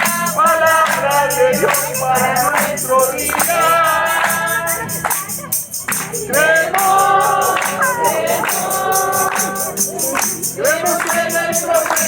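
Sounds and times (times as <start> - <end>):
group singing gospel chorus: 0.0 - 5.3, 6.0 - 12.0
tambourine shaking: 0.0 - 12.0.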